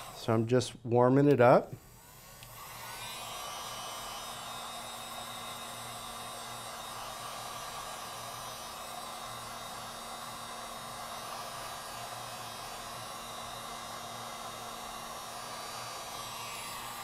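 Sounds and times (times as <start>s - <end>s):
heat gun blowing air: 0.0s - 17.0s.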